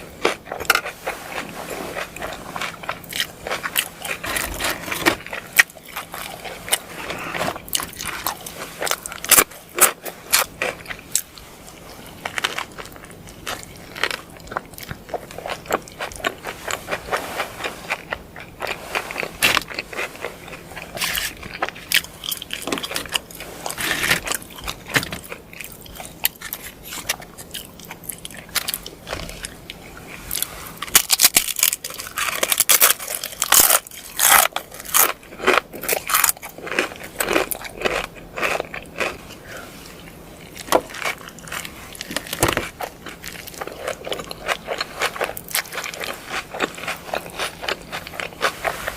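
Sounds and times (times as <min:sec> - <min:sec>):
chewing crunchy food: 0:00.0 - 0:48.9.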